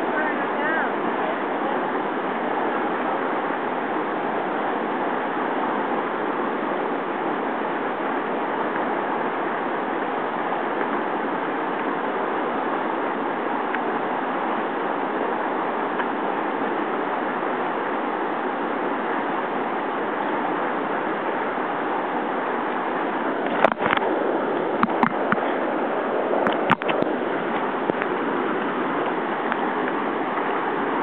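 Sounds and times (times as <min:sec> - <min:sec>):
river rapids rushing over rocks: 0:00.0 - 0:31.0.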